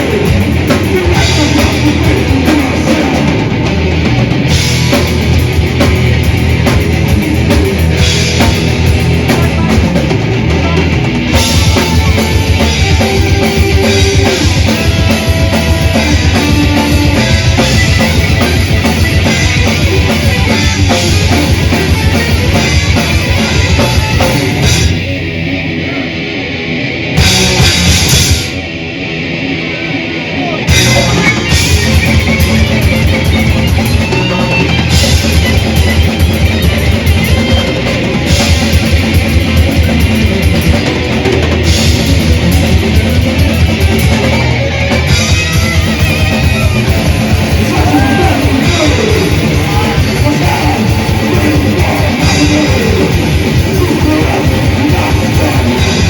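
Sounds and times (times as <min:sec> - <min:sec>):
fast driving drumming: 0:00.0 - 0:26.0, 0:27.0 - 0:28.7, 0:30.6 - 0:56.0
metal band playing live: 0:00.0 - 0:56.0.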